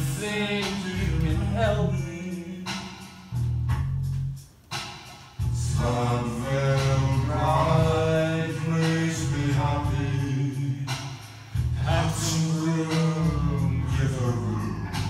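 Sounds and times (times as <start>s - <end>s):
person singing: 0.0s - 3.2s, 5.6s - 15.0s
steady bass: 0.0s - 15.0s.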